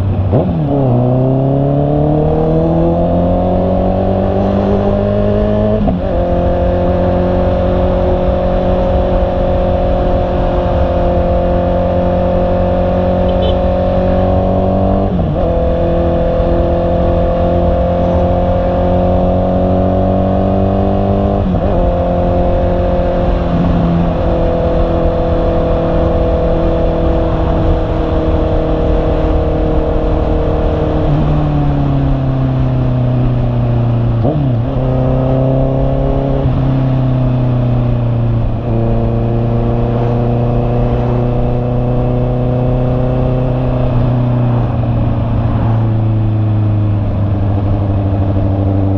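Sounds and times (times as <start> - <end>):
motorcycle engine running: 3.1 - 48.9.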